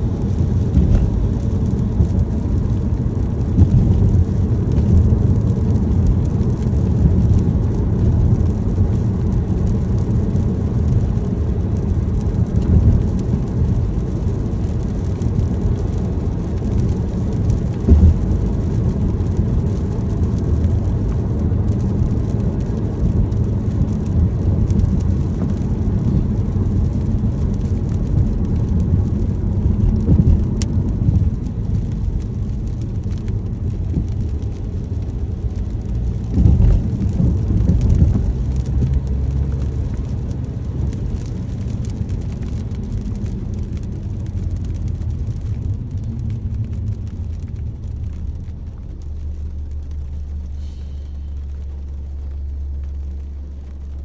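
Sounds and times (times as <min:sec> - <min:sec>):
car road and engine rumble: 0:00.0 - 0:54.0
rain on car: 0:00.0 - 0:54.0.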